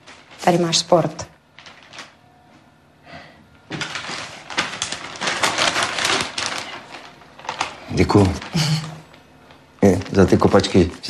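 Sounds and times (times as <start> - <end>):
newspaper rustling and crackling: 0.0 - 2.2, 3.7 - 11.0.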